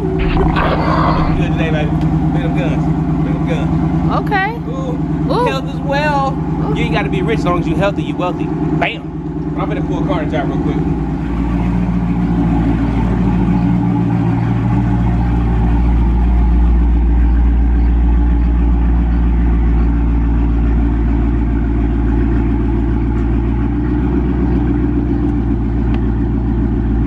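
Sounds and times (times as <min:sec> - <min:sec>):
car engine running at low revs: 0:00.0 - 0:27.0.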